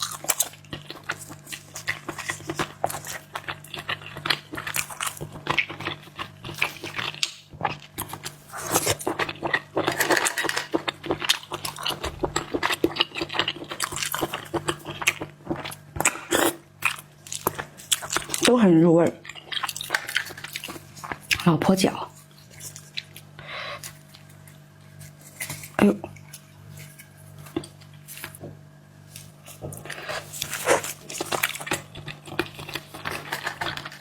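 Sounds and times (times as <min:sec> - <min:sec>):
person chewing and crunching food: 0:00.0 - 0:34.0.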